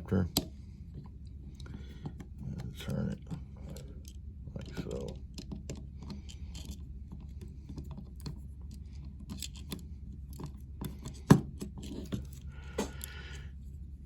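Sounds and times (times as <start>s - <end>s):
small metal clicks and rattles: 1.0s - 12.4s.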